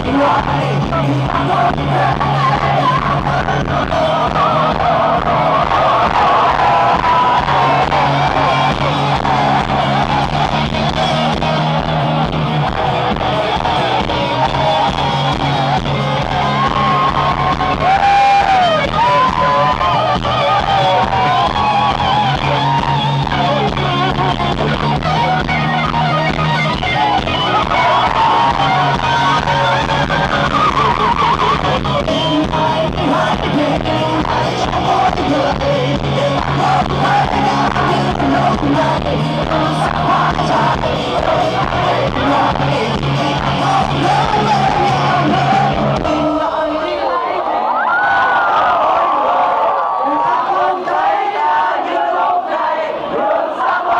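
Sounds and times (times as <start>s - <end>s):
bending lead guitar melody: 0.0s - 46.3s
live rock band playing: 0.0s - 46.4s.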